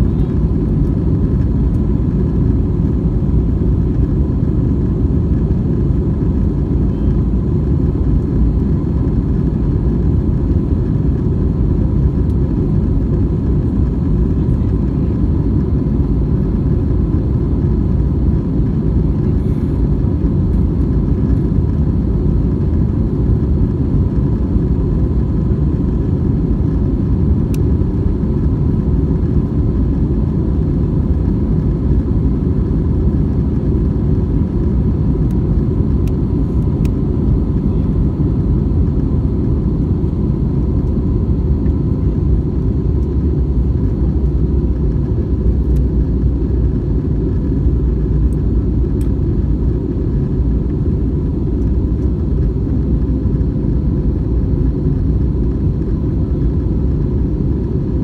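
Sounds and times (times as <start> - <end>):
airliner engines and rushing air: 0.0 - 58.0.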